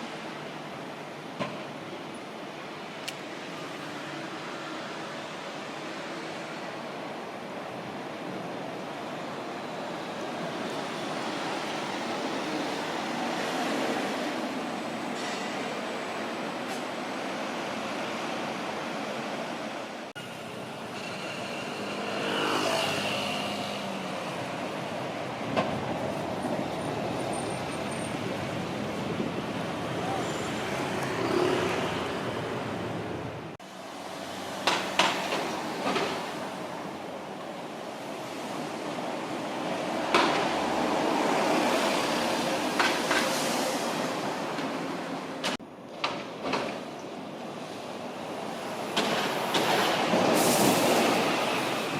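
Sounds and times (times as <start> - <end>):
road traffic passing: 0.0 - 51.9.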